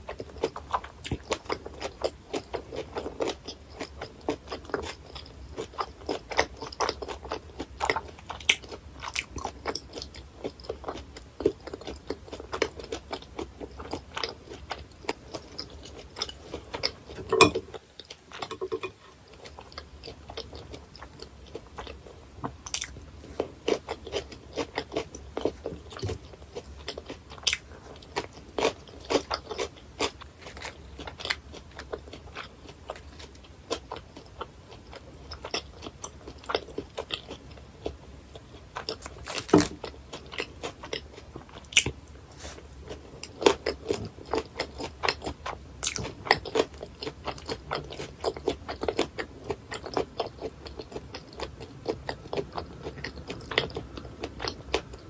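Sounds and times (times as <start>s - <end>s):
chewing with crisp bone crunches: 0.0s - 55.0s.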